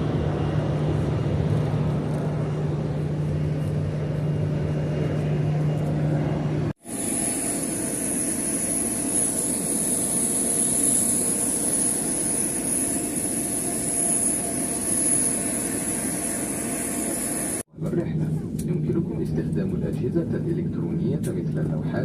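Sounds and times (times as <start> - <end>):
jet engines in cabin: 0.0 - 22.0.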